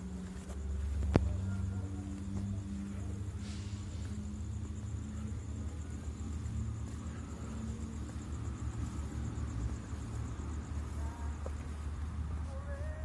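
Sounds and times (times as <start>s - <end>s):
insects trilling: 0.0s - 13.0s
steady low rumble: 0.0s - 13.0s.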